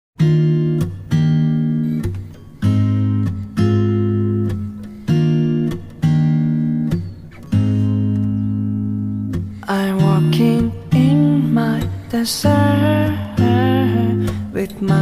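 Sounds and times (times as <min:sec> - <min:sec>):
acoustic guitar strumming chords: 0:00.2 - 0:15.0.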